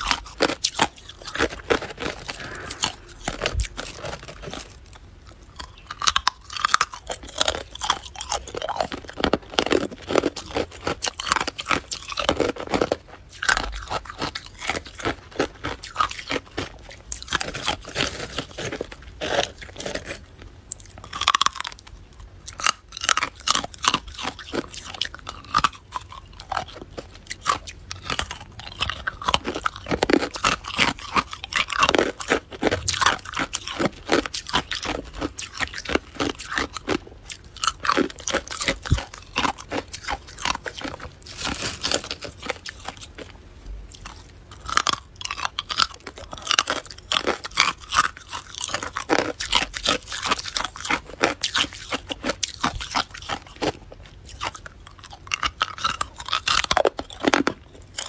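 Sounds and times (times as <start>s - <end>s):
chewing crushed ice: 0.0s - 58.0s.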